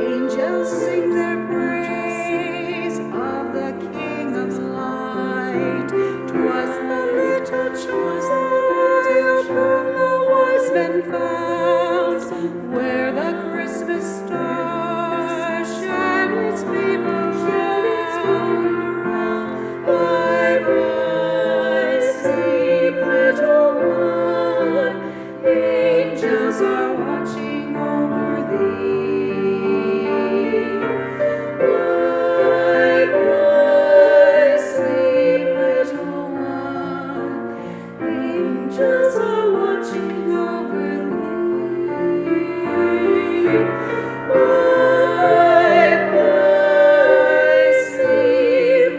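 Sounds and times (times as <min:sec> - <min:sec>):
piano accompaniment: 0:00.0 - 0:48.9
vocal trio singing in harmony: 0:00.0 - 0:48.9.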